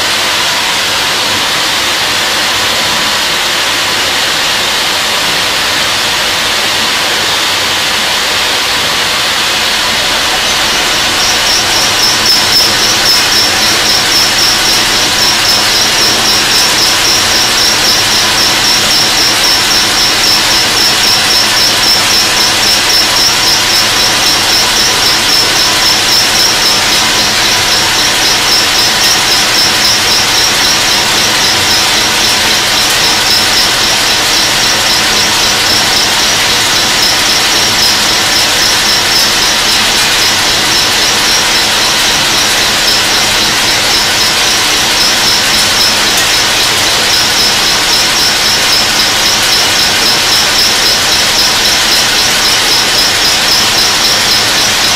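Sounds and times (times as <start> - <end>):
high pulsing whine: 0.0 - 54.9
machining noise: 0.0 - 54.9.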